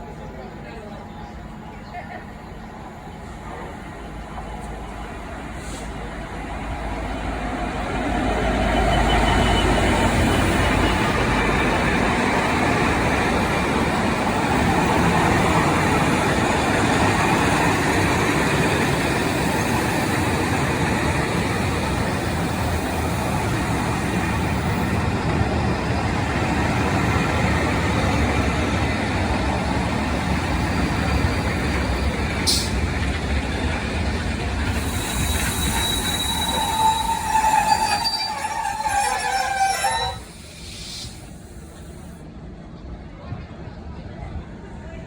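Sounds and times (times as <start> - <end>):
train wheels on rails: 2.8 - 42.2.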